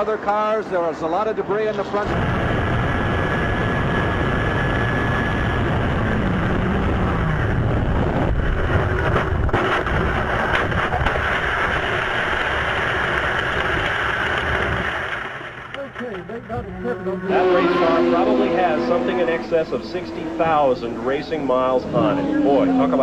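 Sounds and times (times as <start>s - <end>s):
race car engines: 0.0s - 23.0s.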